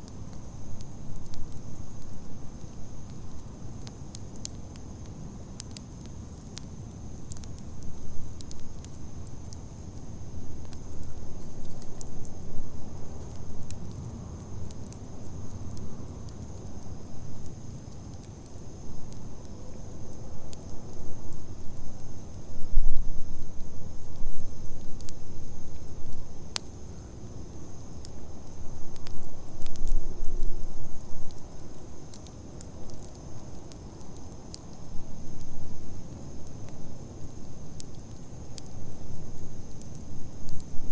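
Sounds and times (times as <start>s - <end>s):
burning wood crackling and popping: 0.0s - 40.9s
campfire flames rumbling: 0.0s - 40.9s
crickets chirring: 0.0s - 40.9s.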